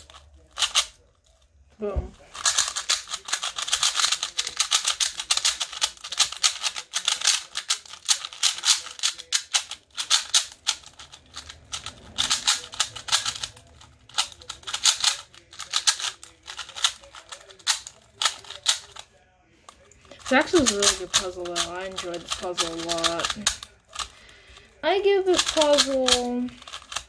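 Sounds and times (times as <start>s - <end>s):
plastic puzzle cube clicking: 0.0s - 1.0s, 2.3s - 19.1s, 19.7s - 24.7s, 25.3s - 27.0s.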